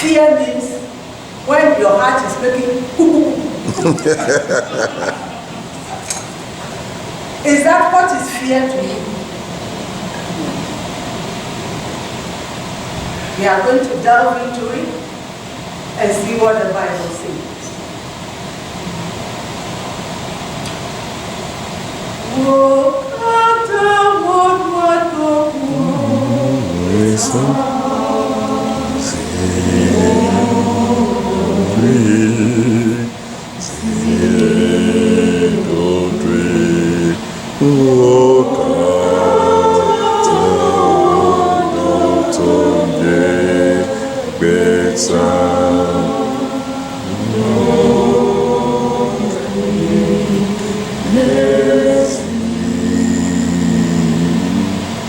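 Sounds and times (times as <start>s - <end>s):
congregation singing a hymn: 0.0s - 17.8s, 21.4s - 55.0s.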